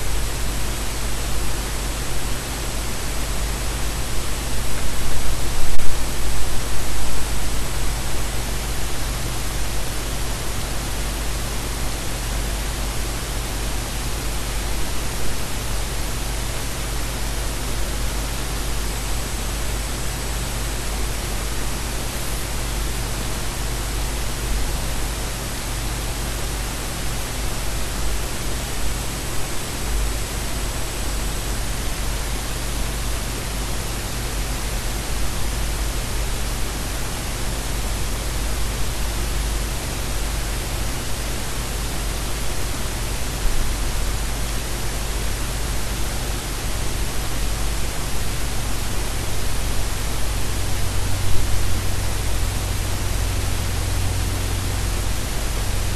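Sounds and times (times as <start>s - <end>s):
faint high whine: 0.0s - 55.9s
steady broadband hiss: 0.0s - 55.9s.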